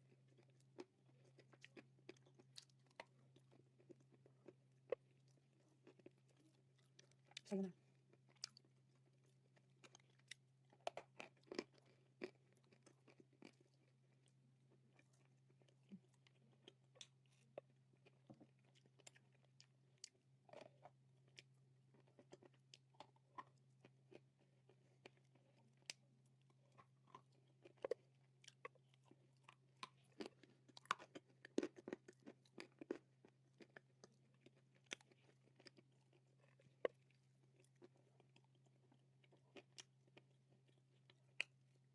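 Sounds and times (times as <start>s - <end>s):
person chewing dry clay: 0.0s - 41.9s.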